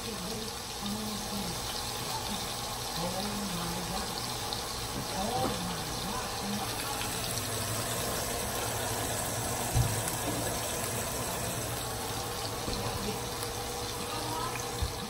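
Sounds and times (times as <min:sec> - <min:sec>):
meat sizzling in a skillet: 0:00.0 - 0:15.0.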